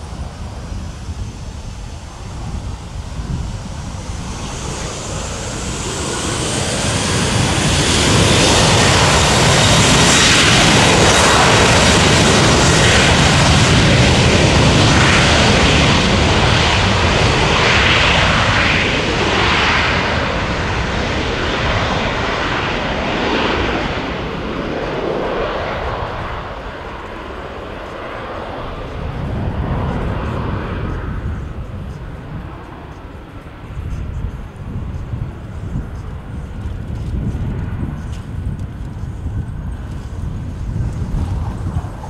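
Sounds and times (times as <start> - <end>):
jet engines roaring at takeoff: 0.0 - 42.0.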